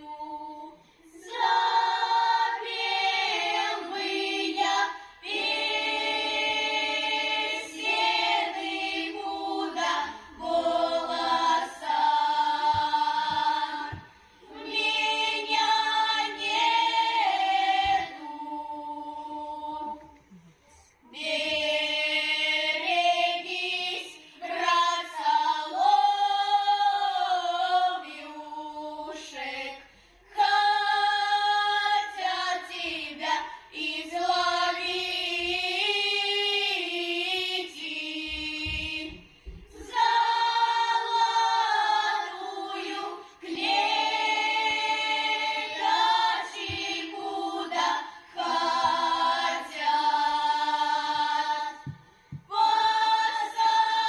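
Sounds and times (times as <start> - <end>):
female choir singing a cappella: 0.0 - 54.0.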